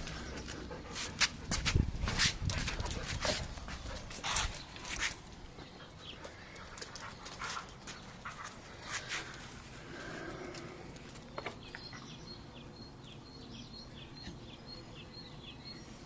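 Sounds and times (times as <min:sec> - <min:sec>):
dogs playing noisily: 0:00.0 - 0:16.0.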